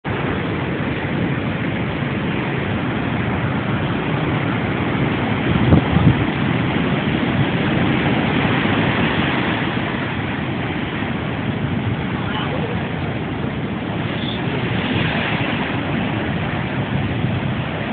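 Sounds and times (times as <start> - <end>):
heavy storm surf: 0.0 - 17.9
wind buffeting microphone: 0.0 - 17.9.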